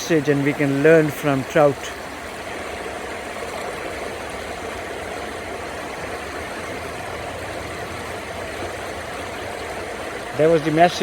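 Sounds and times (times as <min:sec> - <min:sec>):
river water rushing over rapids: 0:00.0 - 0:11.0.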